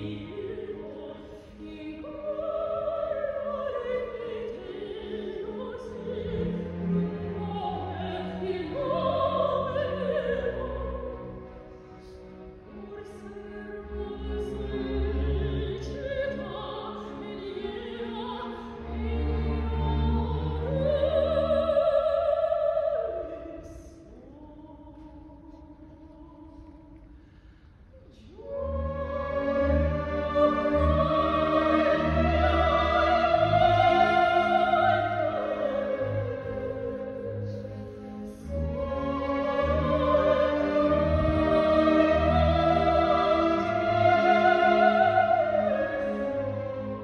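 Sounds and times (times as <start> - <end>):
operatic soprano singing: 0.0 - 27.2, 28.0 - 47.0
symphony orchestra: 0.0 - 47.0.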